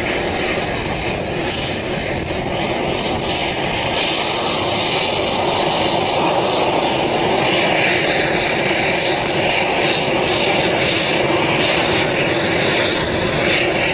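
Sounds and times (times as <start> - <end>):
aircraft engine noise in cabin: 0.0 - 13.9.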